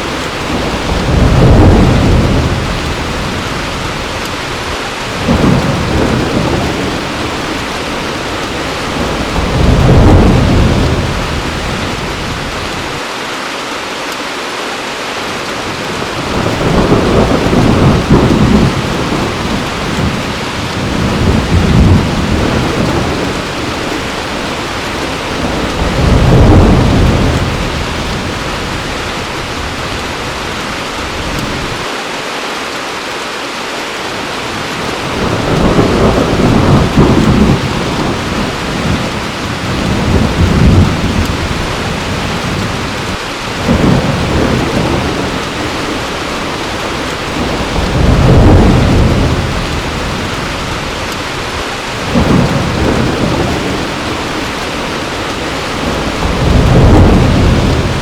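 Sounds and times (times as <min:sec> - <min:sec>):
thunder rumbling low: 0:00.0 - 0:13.0, 0:15.8 - 0:31.8, 0:34.8 - 0:58.0
heavy rain: 0:00.0 - 0:58.0.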